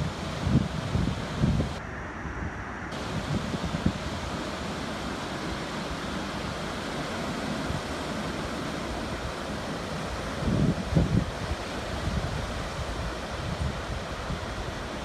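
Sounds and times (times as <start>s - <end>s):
waves washing on beach: 0.0s - 2.0s, 2.6s - 15.0s.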